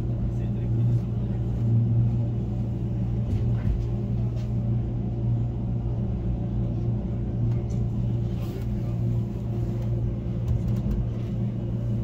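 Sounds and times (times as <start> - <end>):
train carriage hum and rumble: 0.0 - 12.0.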